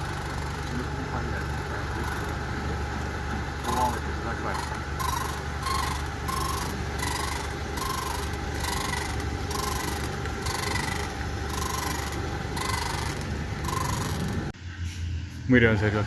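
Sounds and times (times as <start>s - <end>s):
rhythmic rubbing squeak: 0.0s - 2.5s, 3.6s - 14.5s
steady low hum: 0.0s - 16.0s.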